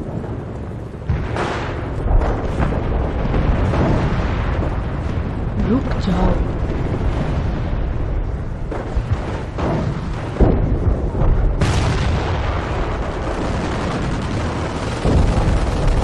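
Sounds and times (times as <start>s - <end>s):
deep rumble: 0.0s - 16.0s
artillery shells exploding: 1.0s - 16.0s.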